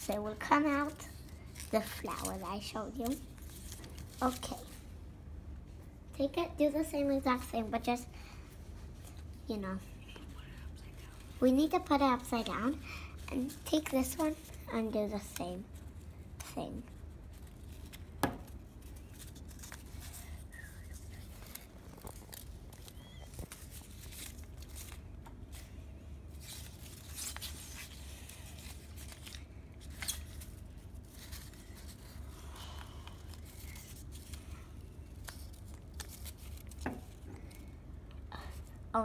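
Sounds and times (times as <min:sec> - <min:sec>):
paper strips rustling: 0:00.0 - 0:04.9, 0:08.9 - 0:37.7
steady low hum: 0:00.0 - 0:39.0.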